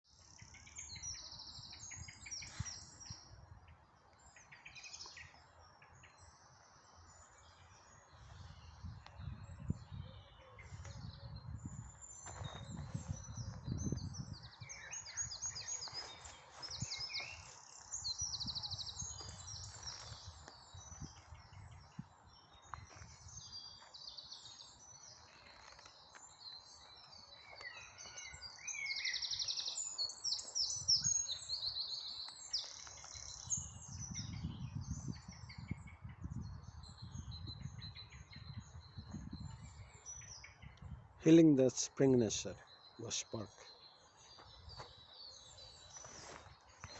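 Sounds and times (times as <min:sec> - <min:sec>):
songbirds chirping and trilling: 0:00.1 - 0:46.9.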